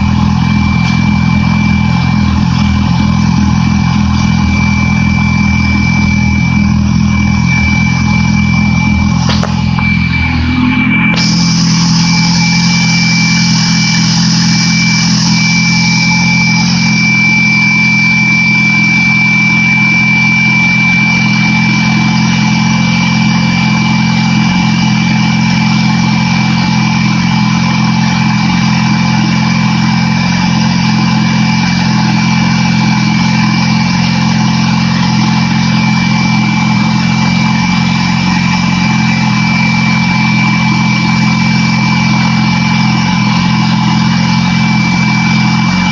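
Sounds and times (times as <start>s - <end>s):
motorcycle engine idling: 0.0s - 45.9s
thin high whine: 0.0s - 45.9s.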